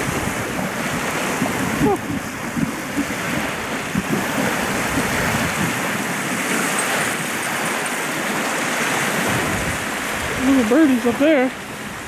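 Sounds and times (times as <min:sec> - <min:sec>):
waves washing onto shore: 0:00.0 - 0:12.0
wind: 0:00.0 - 0:12.0.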